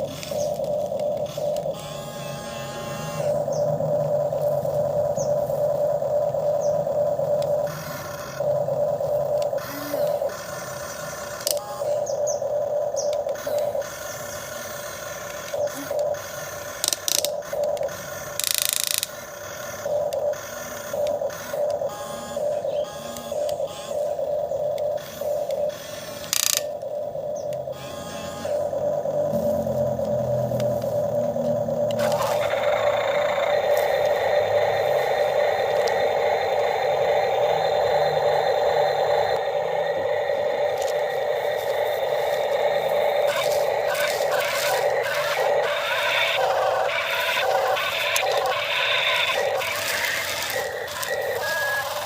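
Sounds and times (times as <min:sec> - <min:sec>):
electric motors whining: 0:00.0 - 0:52.0.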